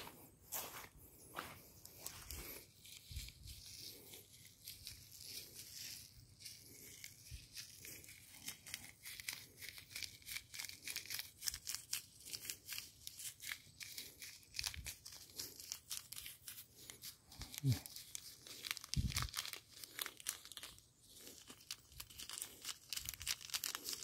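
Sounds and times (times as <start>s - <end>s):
seed packet rustling: 0.0s - 24.0s.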